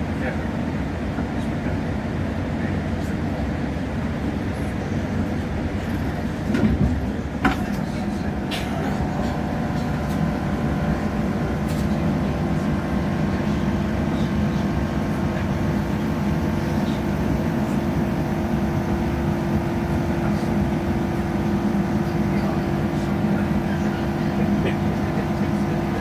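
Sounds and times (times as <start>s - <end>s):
diesel train interior drone: 0.0s - 26.0s.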